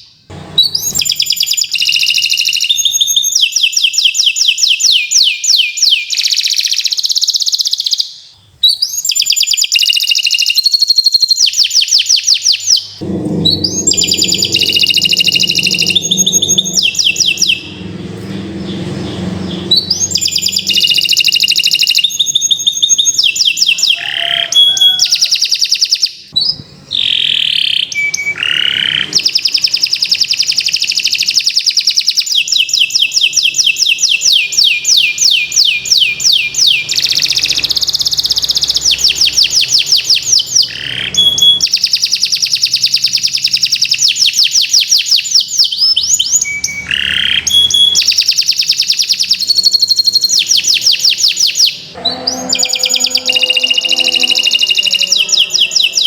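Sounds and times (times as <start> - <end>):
canary singing fast trills: 0.0 - 56.0.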